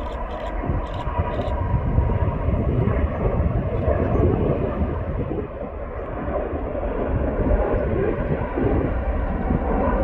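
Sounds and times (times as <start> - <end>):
jet engines deep rumble: 0.0 - 10.0.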